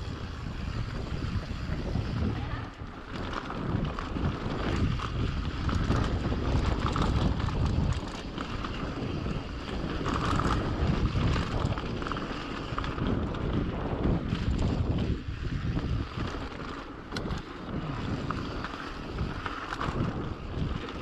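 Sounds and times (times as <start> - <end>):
bike rattles and clicks: 0.0 - 21.0
mountain bike rolling rumble: 0.0 - 21.0
wind buffeting microphone: 0.0 - 21.0.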